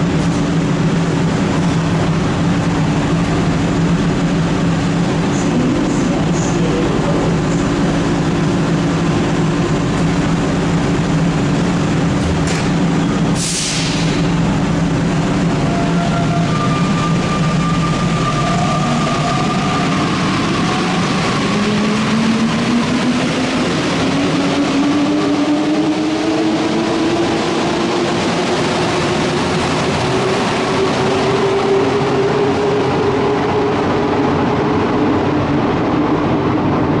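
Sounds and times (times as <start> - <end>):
metro train motor whine: 0.0 - 37.0
train running noise: 0.0 - 37.0.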